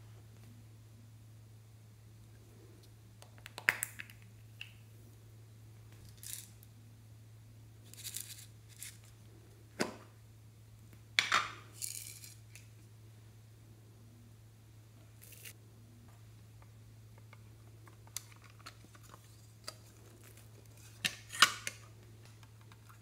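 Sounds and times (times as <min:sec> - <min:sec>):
steady low hum: 0:00.0 - 0:03.5, 0:04.2 - 0:23.0.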